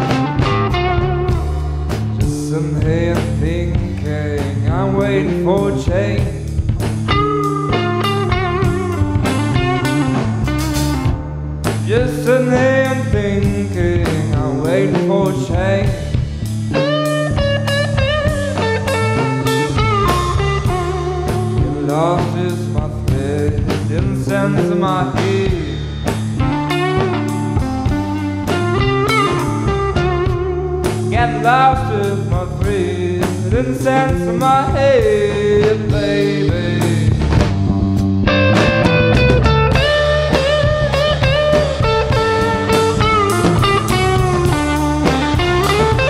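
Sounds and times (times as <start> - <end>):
bass guitar: 0.0 - 46.0
drum kit: 0.0 - 46.0
electric lead guitar: 0.0 - 46.0.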